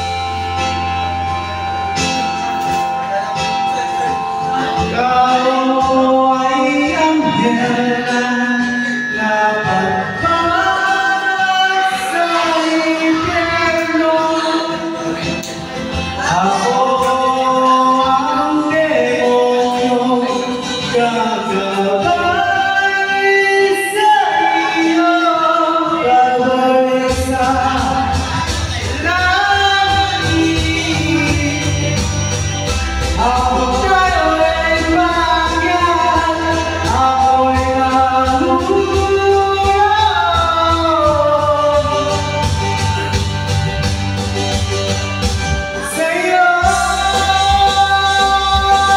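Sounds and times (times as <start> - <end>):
backing music: 0.0 - 48.9
man singing into a microphone: 0.0 - 48.9.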